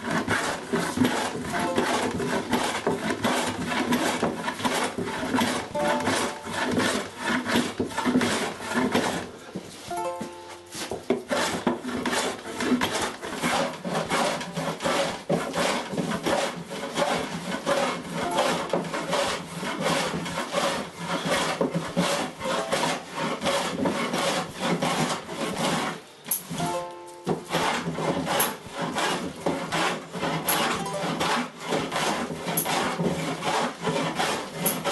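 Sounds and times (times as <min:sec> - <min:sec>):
hand tool strokes on wood: 0:00.0 - 0:34.9.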